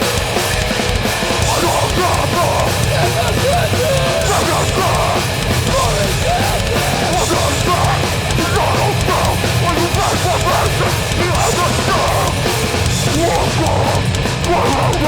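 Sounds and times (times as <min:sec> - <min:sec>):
heavy distorted rock band: 0:00.0 - 0:15.0.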